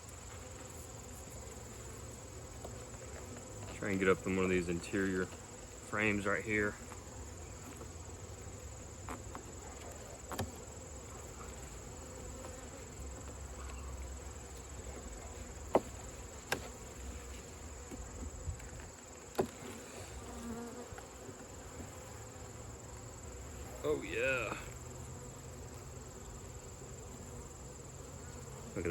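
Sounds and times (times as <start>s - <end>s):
honeybees buzzing: 0.0s - 28.9s.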